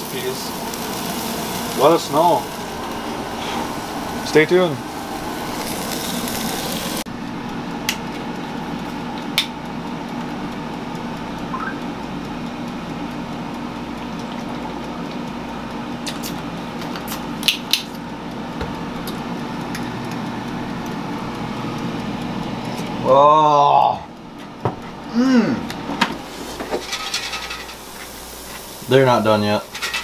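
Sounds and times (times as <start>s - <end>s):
appliance humming: 0.0s - 30.0s.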